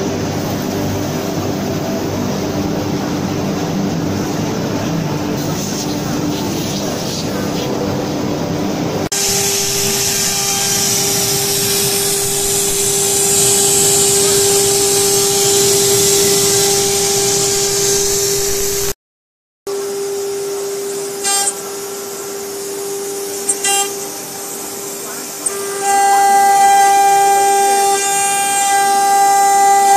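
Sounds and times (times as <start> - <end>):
router spindle whine: 0.0 - 18.9, 19.7 - 29.9.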